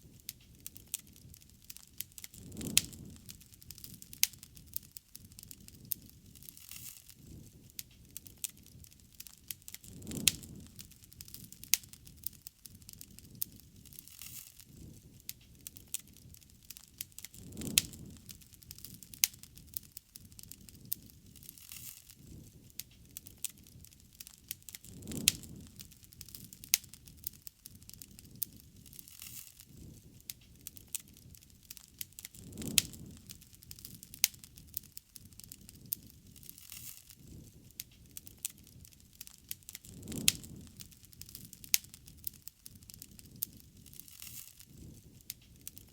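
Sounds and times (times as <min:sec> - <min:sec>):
bonfire crackling and popping: 0:00.0 - 0:45.9.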